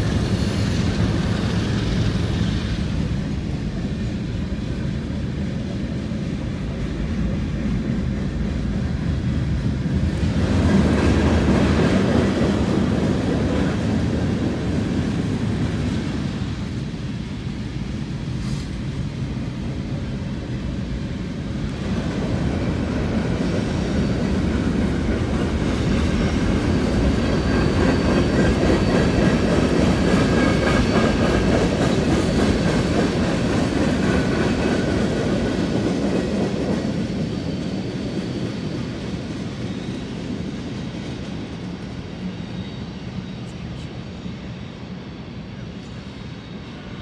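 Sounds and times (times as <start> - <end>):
train wheels clacking on rails: 0.0 - 42.6.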